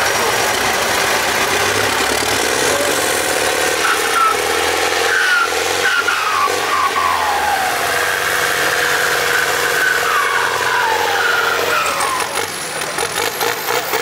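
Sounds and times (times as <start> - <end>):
tractor engine under load: 0.0 - 14.0.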